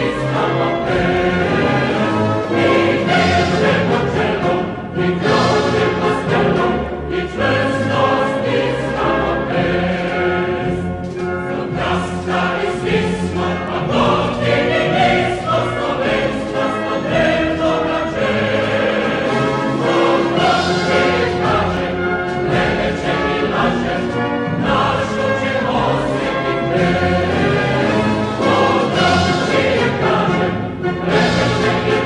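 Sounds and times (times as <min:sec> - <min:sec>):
choir singing sustained chords: 0:00.0 - 0:32.0
instrumental accompaniment: 0:00.0 - 0:32.0.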